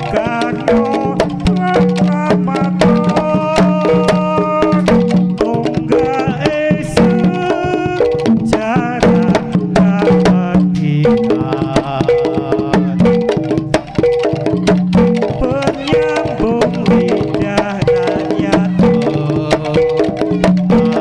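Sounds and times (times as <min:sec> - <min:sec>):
hand drums beating: 0:00.0 - 0:21.0
wavering melody line: 0:00.0 - 0:21.0.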